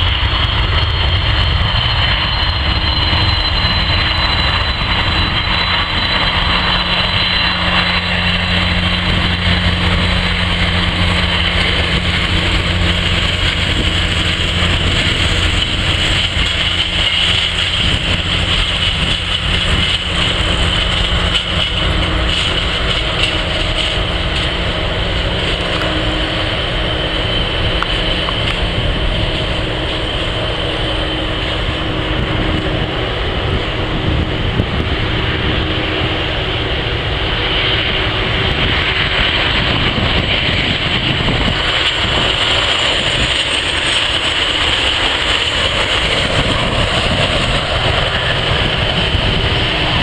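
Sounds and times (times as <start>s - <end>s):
high engine whine: 0.0s - 50.0s
jet engines rumbling: 0.0s - 50.0s.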